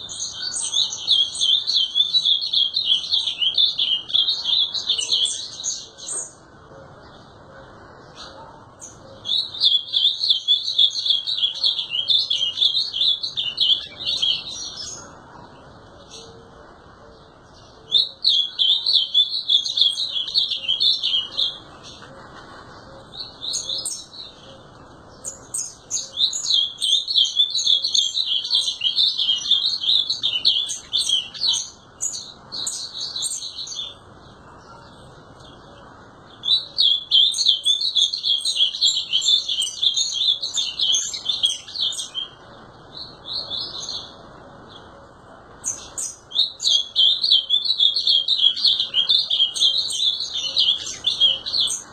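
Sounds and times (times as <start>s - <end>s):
bird warbling song: 0.0s - 45.0s, 45.6s - 51.9s.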